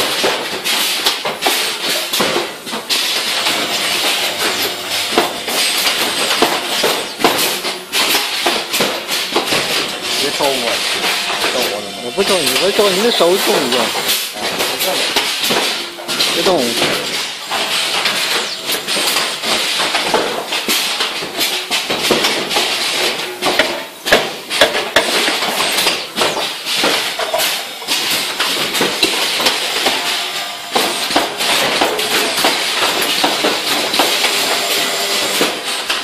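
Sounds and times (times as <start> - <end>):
machine metallic clatter: 0.0 - 36.0
sharp knocks: 3.2 - 36.0.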